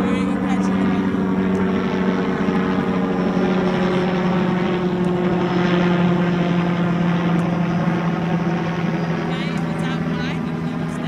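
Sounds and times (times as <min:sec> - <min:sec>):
steady engine drone: 0:00.0 - 0:11.0.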